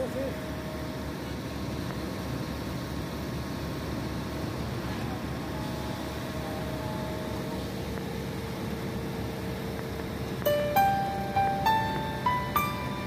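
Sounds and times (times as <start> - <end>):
construction machinery rumbling: 0.0 - 13.0
faint machine whine: 0.0 - 13.0.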